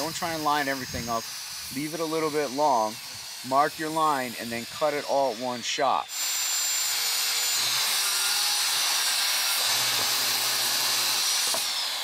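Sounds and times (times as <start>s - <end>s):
circular saw cutting wood: 0.0s - 12.0s.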